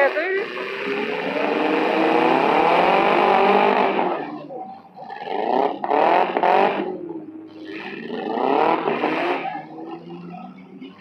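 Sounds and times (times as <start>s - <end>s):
car engine revving hard: 0.0s - 10.6s.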